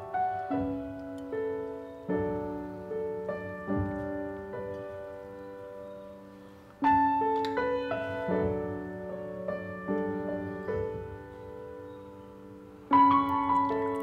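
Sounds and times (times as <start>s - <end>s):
soft slow piano piece: 0.0s - 14.0s.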